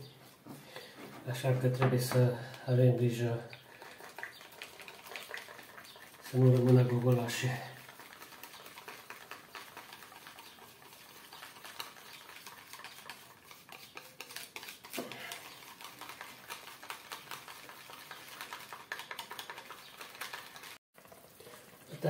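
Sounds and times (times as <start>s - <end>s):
wire whisk beating batter: 2.2s - 21.2s.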